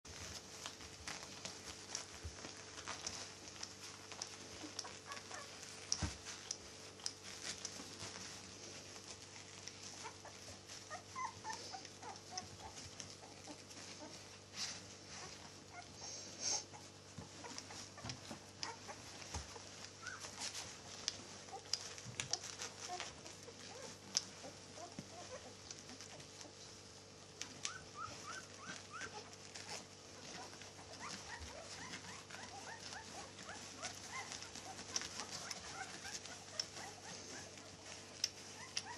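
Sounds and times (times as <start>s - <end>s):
soft clicks on bedding: 0.1s - 16.0s, 16.8s - 38.9s
puppies squeaking and whimpering: 0.2s - 38.9s.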